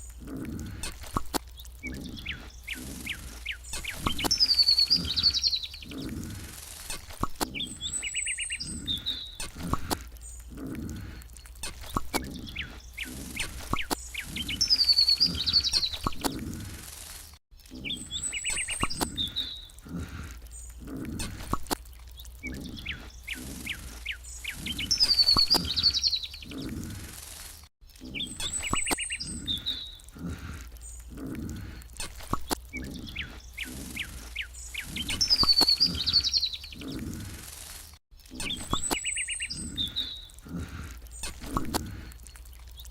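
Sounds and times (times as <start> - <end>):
birds chirping and whistling: 0.0 - 16.9, 17.7 - 21.6, 22.2 - 27.4, 28.0 - 37.7, 38.4 - 42.9.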